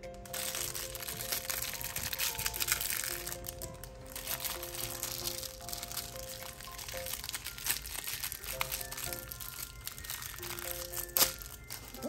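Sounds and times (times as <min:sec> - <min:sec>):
soft background music: 0:00.0 - 0:12.0
plastic wrapper crinkling: 0:00.1 - 0:12.0.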